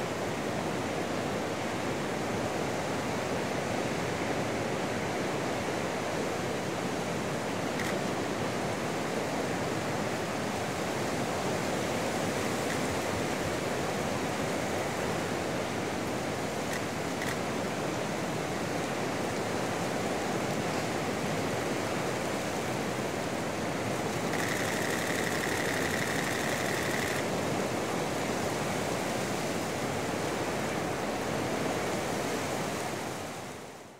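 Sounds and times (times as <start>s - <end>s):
wind: 0.0s - 33.9s.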